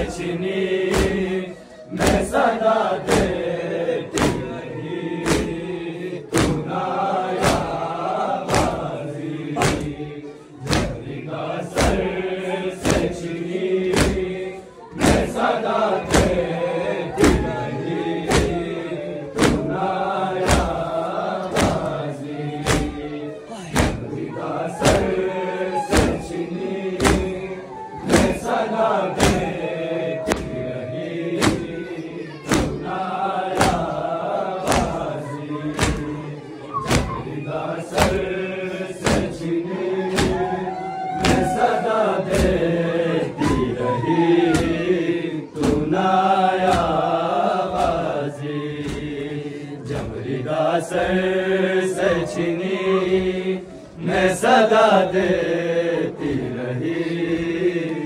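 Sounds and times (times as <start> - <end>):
men chanting in unison: 0.0 - 58.0.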